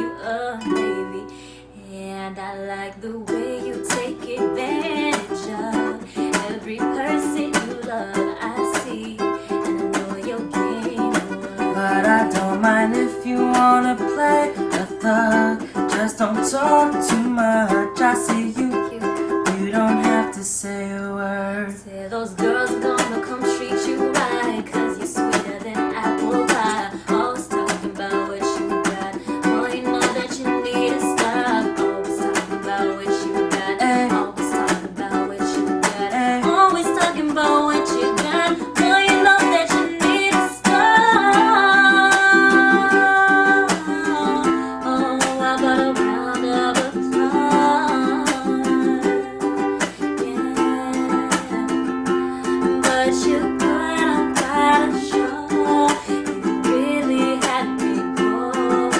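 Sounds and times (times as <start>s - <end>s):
ukulele strumming chords: 0.0s - 1.8s, 2.4s - 58.9s.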